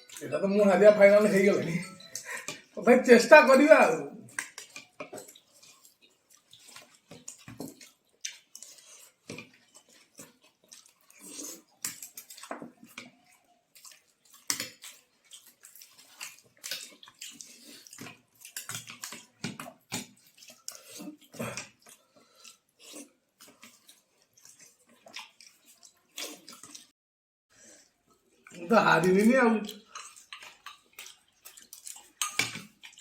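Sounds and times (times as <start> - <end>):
person eating with wet smacks: 4.2 - 26.9, 27.8 - 33.0.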